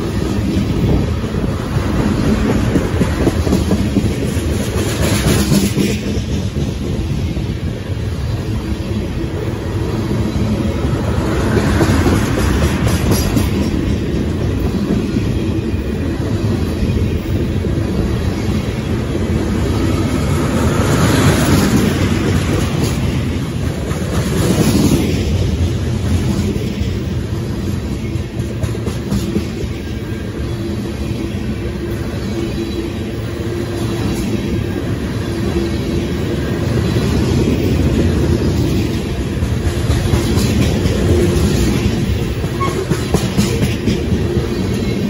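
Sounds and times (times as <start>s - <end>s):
train wheels clattering on rails: 0.0s - 45.0s.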